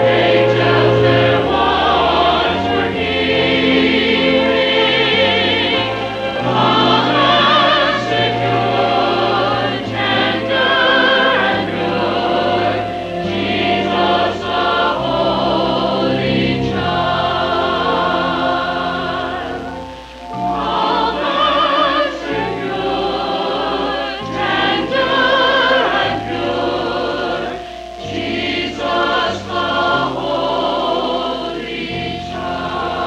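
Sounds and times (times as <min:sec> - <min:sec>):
church choir singing: 0:00.0 - 0:33.0
low accompaniment notes: 0:00.0 - 0:33.0.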